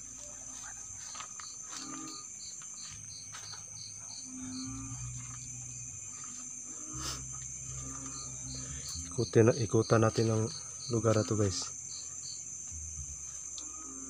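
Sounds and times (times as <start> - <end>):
crickets trilling: 0.0 - 14.0
insect pulsing chirps: 0.0 - 14.0.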